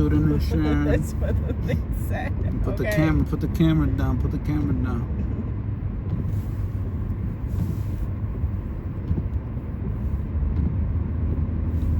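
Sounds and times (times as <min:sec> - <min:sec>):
car driving rumble: 0:00.0 - 0:11.9.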